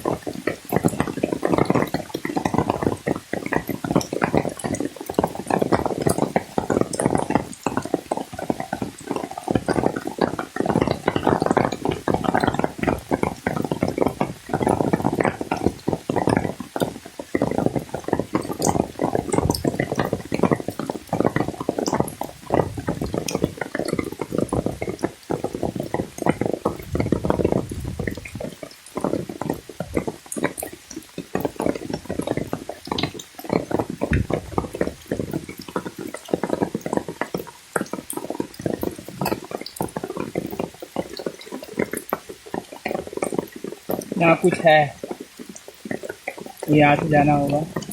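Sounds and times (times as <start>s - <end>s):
water splashing and churning: 0.0s - 47.9s.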